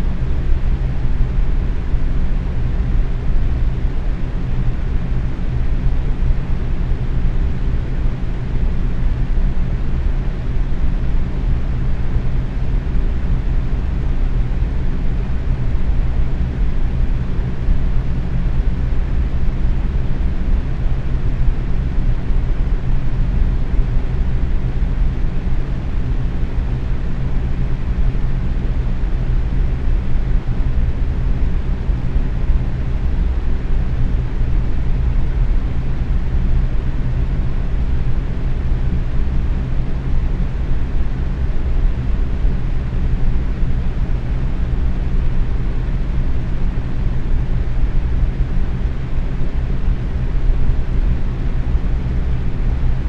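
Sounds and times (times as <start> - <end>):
box fan running: 0.0 - 53.0.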